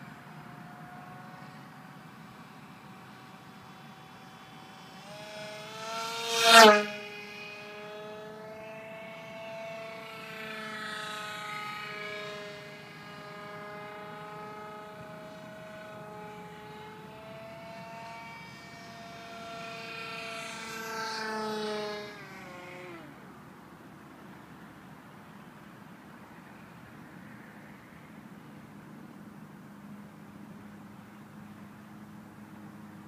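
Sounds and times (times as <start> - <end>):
model plane motor whine: 0.0 - 33.0.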